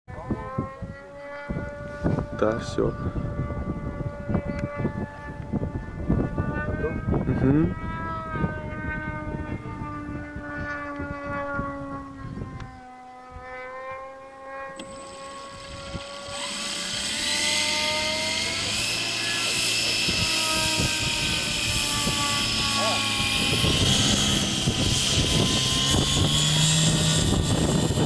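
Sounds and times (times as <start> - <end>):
model airplane motor and propeller: 0.1 - 28.0.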